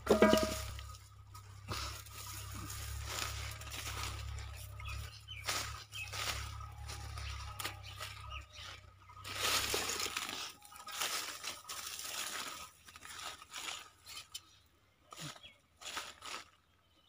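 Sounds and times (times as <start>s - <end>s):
hoe digging dry soil and leaves: 0.0s - 17.0s.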